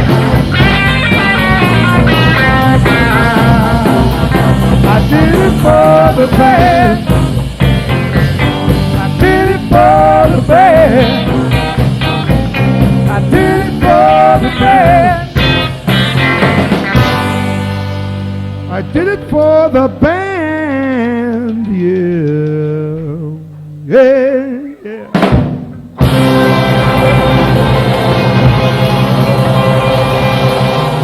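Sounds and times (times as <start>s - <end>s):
blues-rock band playing: 0.0s - 24.1s, 24.8s - 31.0s
electric lead guitar bent notes: 0.0s - 31.0s.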